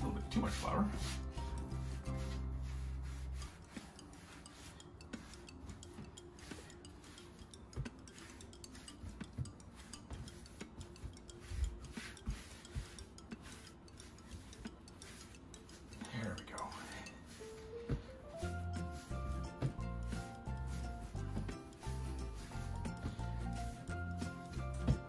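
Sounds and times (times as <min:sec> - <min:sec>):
hands rolling dough: 0:00.0 - 0:25.0.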